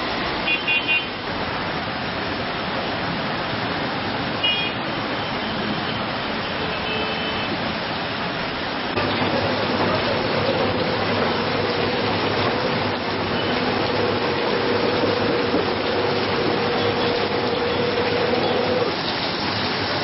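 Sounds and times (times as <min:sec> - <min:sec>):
rain: 0:00.0 - 0:20.0
water gushing from drains: 0:00.0 - 0:20.0.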